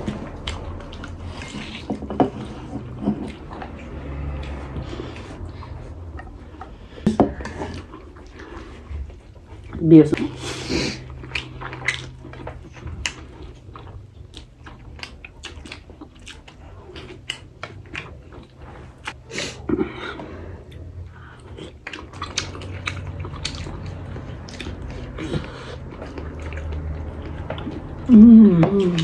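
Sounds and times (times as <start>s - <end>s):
chewing and biting: 0.0s - 29.0s
food crunching: 0.0s - 29.0s
low steady hum: 0.0s - 29.0s.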